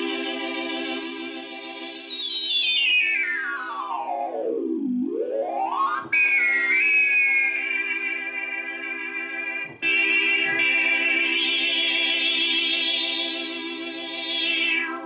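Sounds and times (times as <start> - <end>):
synthesizer sustained tone: 0.0 - 15.0.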